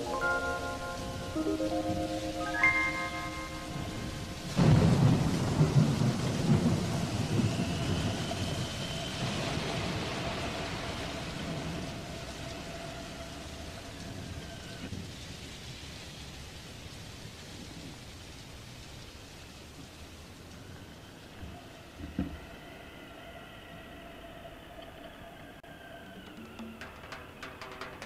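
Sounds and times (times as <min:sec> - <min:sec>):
thunder rolling: 0:00.0 - 0:15.1, 0:20.6 - 0:28.0
hissing rain: 0:00.0 - 0:28.0.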